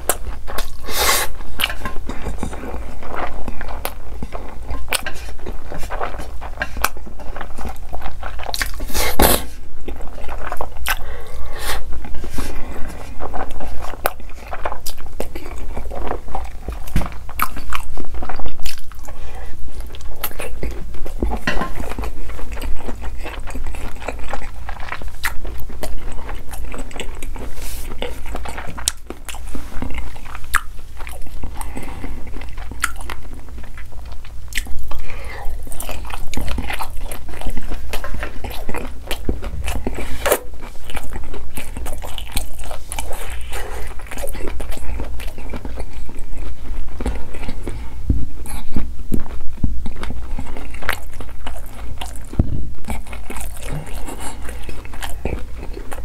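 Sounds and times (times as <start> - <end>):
chewing with wet crunchy clicks: 1.4 - 8.9, 9.8 - 56.0.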